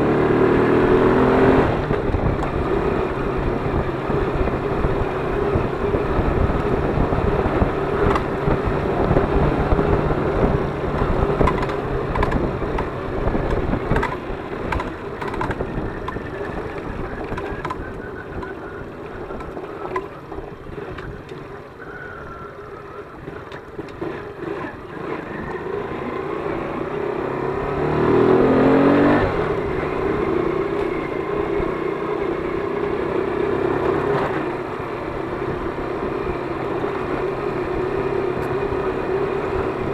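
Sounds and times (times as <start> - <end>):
moped engine running: 0.0 - 39.9.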